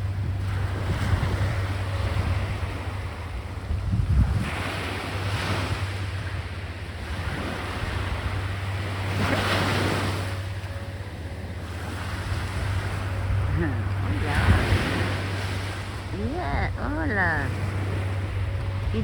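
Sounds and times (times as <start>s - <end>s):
sea waves breaking: 0.0s - 19.0s
wind rumble on microphone: 0.0s - 19.0s.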